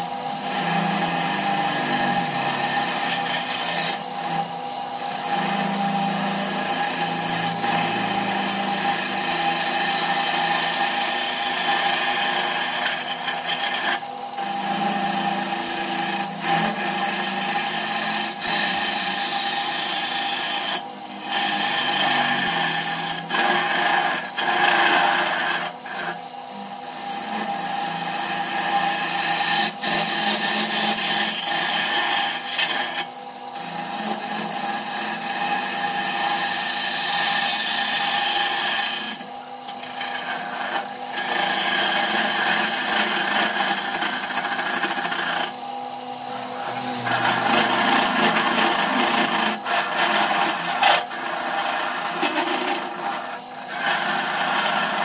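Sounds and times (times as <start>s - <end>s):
machine hum: 0.0s - 55.0s
wood lathe cutting: 0.0s - 55.0s.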